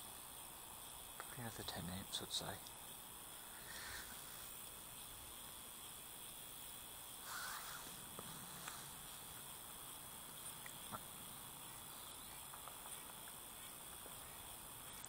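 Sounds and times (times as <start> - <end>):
quiet background hiss: 0.0 - 15.0.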